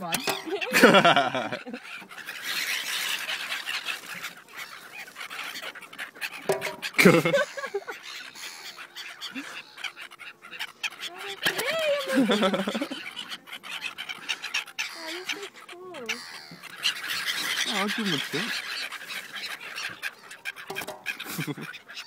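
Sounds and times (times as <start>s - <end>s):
seagull squawk: 0.0s - 22.0s
seagulls calling: 0.0s - 22.0s.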